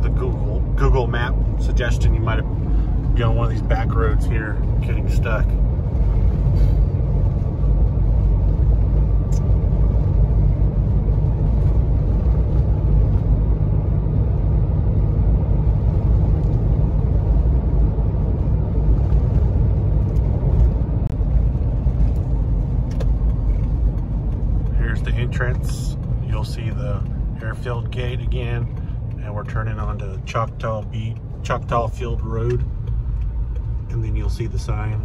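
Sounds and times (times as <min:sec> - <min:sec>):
vehicle driving on road: 0:00.0 - 0:35.0.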